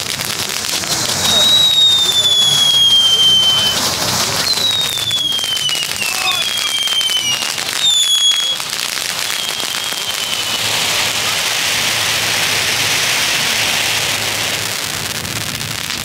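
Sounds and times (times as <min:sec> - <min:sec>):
fine crackling sparks: 0:00.0 - 0:16.0
fireworks fountain hissing: 0:00.0 - 0:16.0.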